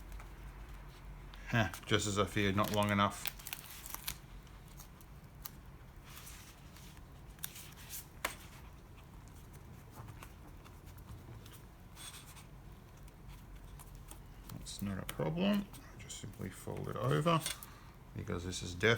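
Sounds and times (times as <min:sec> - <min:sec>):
paper rustling: 0:00.0 - 0:17.8.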